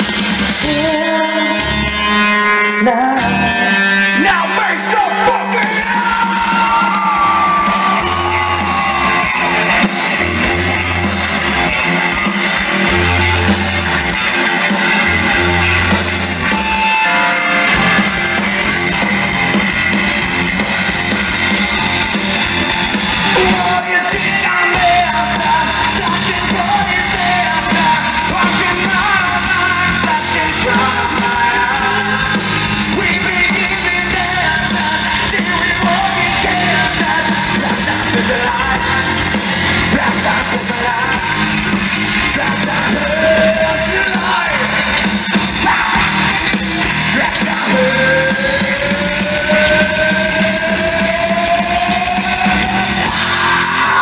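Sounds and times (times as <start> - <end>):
vocalist singing and yelling: 0.0 - 19.6, 22.8 - 54.0
bass guitar: 0.0 - 54.0
drums: 0.0 - 54.0
electric guitar: 0.0 - 54.0.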